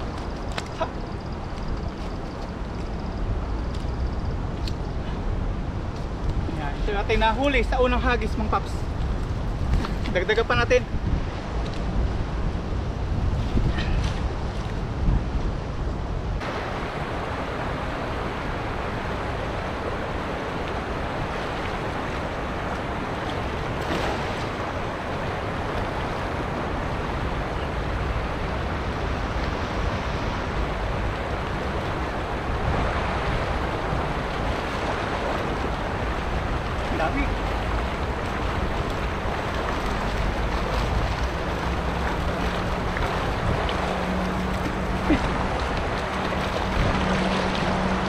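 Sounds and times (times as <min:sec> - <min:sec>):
open water washing: 0:00.0 - 0:48.0
wind buffeting microphone: 0:00.0 - 0:48.0.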